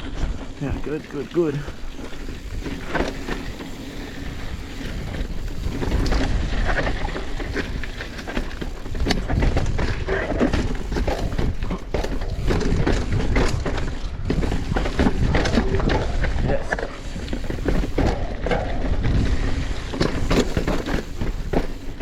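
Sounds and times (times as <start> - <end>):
bike rattling and clicking: 0.0 - 22.0
tyres on loose dirt: 0.0 - 22.0
wind rumble on microphone: 0.0 - 22.0.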